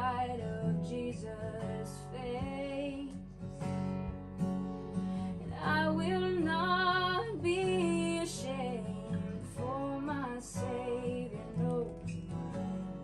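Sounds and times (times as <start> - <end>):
woman singing slow melody: 0.0 - 3.4, 5.3 - 12.7
acoustic guitar: 0.0 - 13.0.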